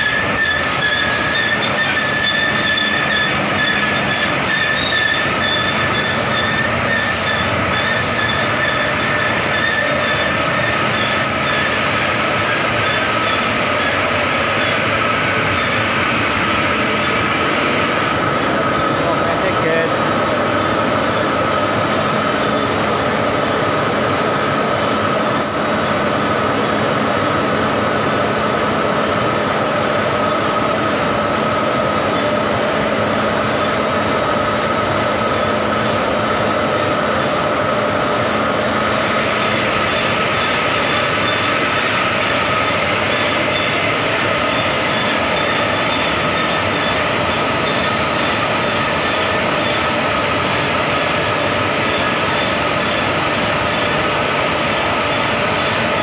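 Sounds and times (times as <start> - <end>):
conveyor machinery running: 0.0 - 56.0.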